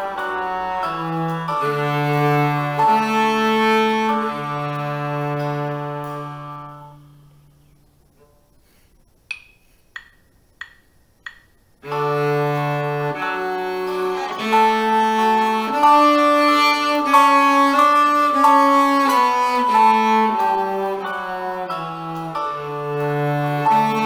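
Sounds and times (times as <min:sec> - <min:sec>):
cello playing held bowed notes: 0:00.0 - 0:07.6, 0:11.8 - 0:24.0.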